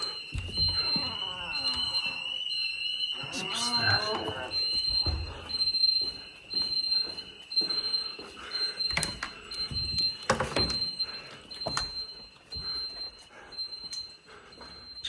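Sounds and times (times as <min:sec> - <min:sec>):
building alarm beeping: 0:00.0 - 0:15.0
steady high alarm tone: 0:00.0 - 0:15.0.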